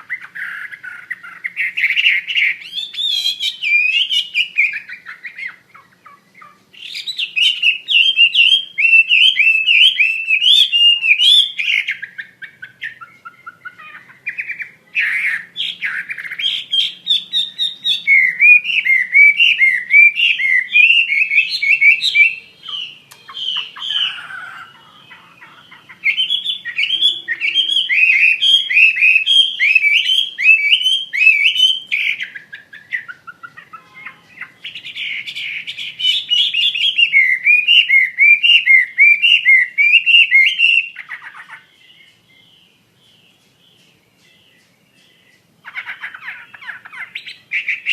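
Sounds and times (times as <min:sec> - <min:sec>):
bird singing whistled notes: 0:00.0 - 0:47.9.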